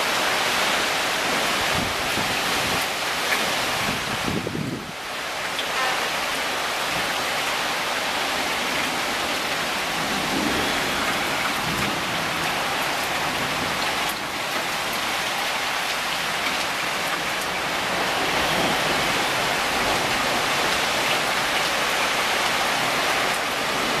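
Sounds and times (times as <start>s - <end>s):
rain pouring: 0.0s - 24.0s.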